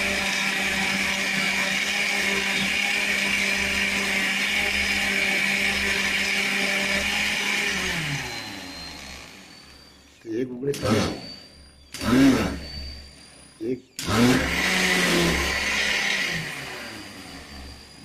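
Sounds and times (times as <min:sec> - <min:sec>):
blender motor running: 0:00.0 - 0:18.0.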